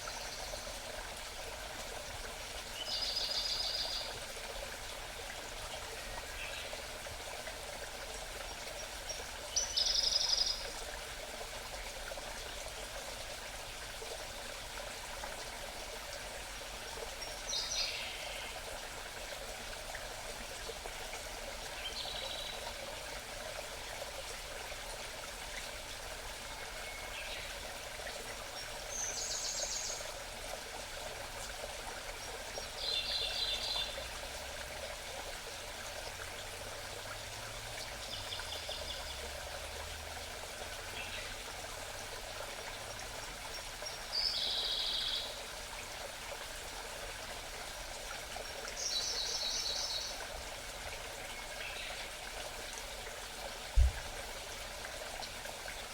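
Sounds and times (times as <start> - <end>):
mountain stream babbling: 0.0 - 55.9.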